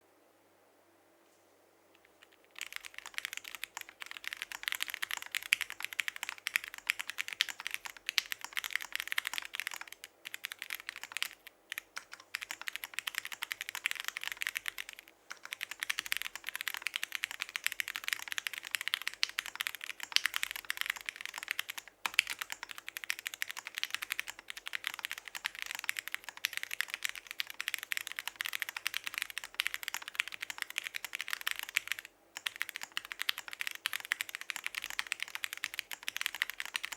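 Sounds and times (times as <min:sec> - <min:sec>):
fast mechanical keyboard typing: 0:02.1 - 0:36.9.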